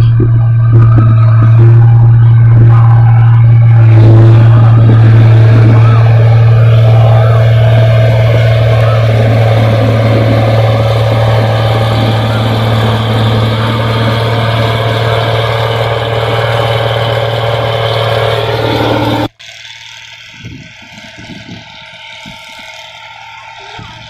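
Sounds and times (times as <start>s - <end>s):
low thumps: 0.0s - 19.3s
combine harvester engine running: 0.0s - 24.0s.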